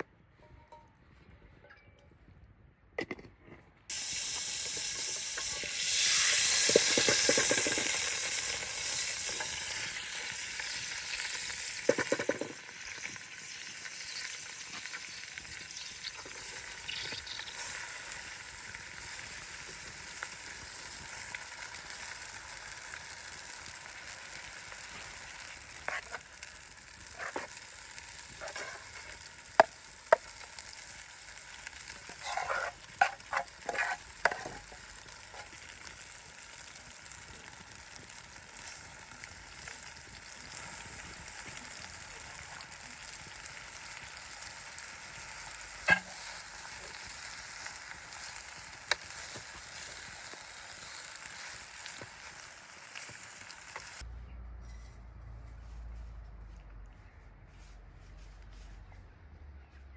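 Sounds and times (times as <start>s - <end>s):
food sizzling in a pan: 3.9s - 54.1s.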